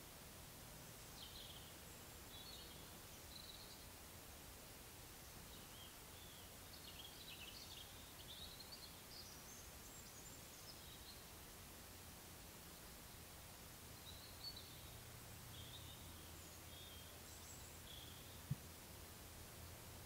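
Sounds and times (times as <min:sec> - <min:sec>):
faint high bird song: 0:00.0 - 0:20.0.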